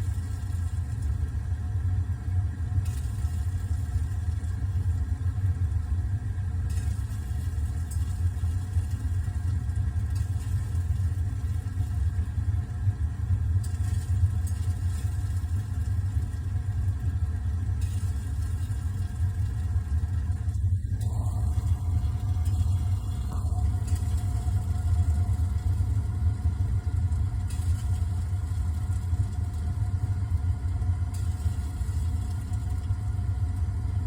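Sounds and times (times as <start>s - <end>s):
burner flame rumbling: 0.0s - 34.0s
faint flame sizzle: 0.0s - 34.0s.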